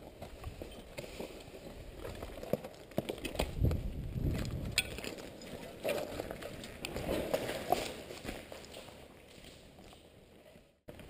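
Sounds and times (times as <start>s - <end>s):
footsteps crunching on rubble: 0.0s - 11.0s.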